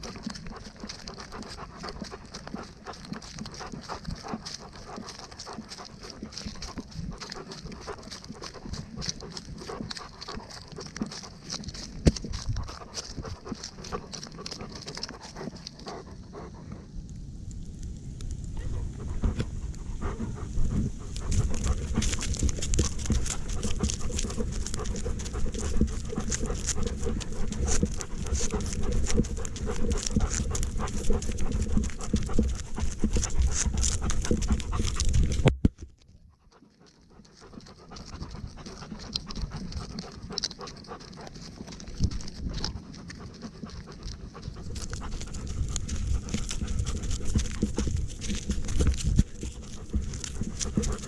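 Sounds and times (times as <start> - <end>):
dog panting: 0.0 - 16.9, 18.6 - 35.5, 36.2 - 51.0.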